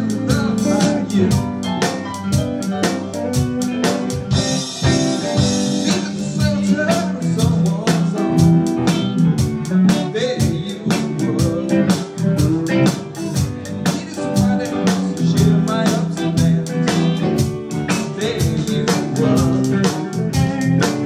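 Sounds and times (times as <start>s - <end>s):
drums beat: 0.0s - 21.0s
guitar: 0.0s - 21.0s
live blues band: 0.0s - 21.0s.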